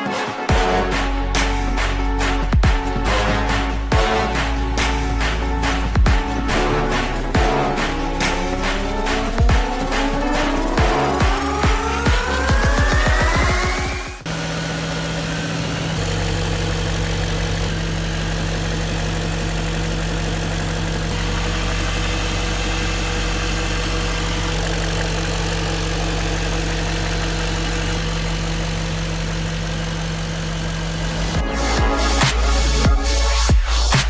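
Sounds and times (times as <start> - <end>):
car engine idling: 0.6 - 34.0.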